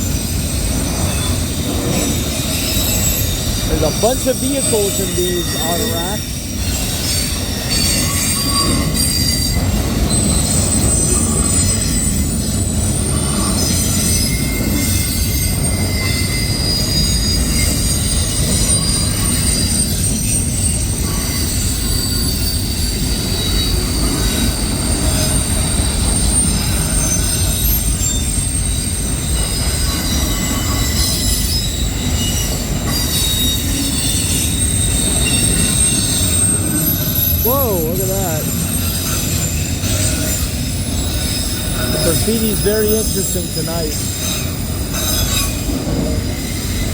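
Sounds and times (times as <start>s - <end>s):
freight train wheels rumbling: 0.0s - 46.9s
high-pitched wheel squeal: 0.1s - 46.9s.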